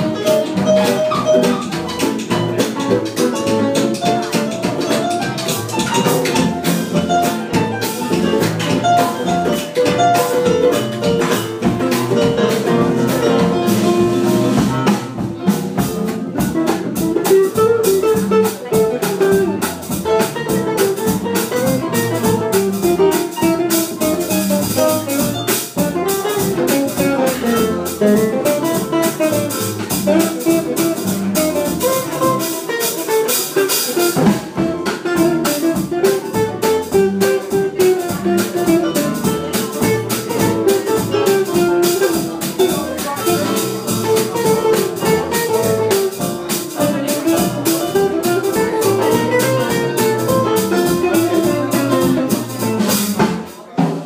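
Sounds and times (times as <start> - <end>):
double bass: 0.0 - 53.8
piano: 0.0 - 53.8
guitar: 0.0 - 53.9
drum kit steady beat: 0.0 - 54.0.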